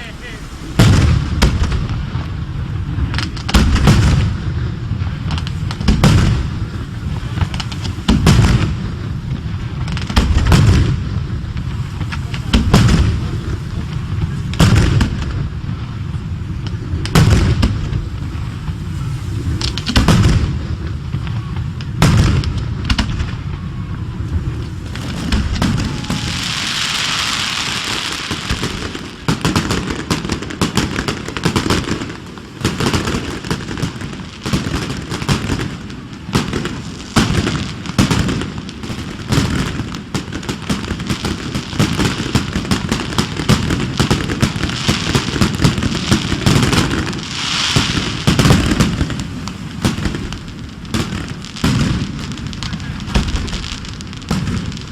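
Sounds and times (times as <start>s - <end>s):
firework shells booming: 0.0s - 54.9s
fireworks hissing crackle: 0.0s - 54.9s
rapid firework bangs: 0.0s - 54.9s.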